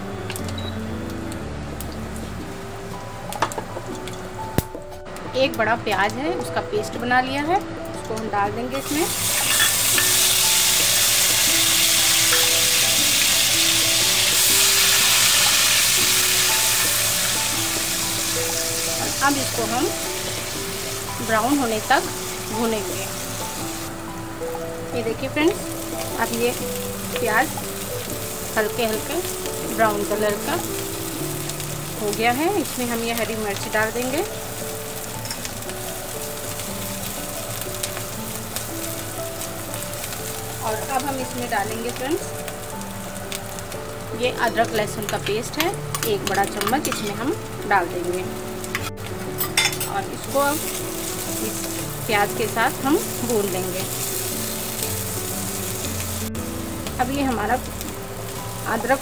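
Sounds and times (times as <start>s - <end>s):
soft background music: 0.0s - 59.0s
onion paste sizzling in oil: 8.2s - 59.0s.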